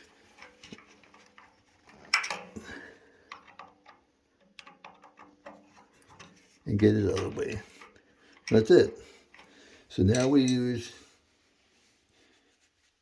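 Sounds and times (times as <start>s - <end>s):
electrical wires clicking and rattling: 0.0s - 10.9s.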